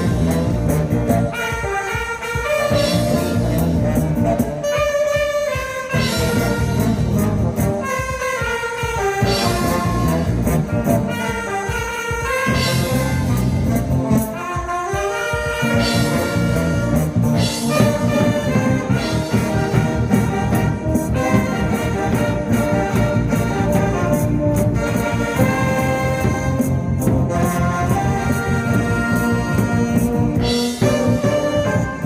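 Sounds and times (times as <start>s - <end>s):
band playing upbeat pop: 0.0s - 32.0s
horns holding melody notes: 0.0s - 32.0s.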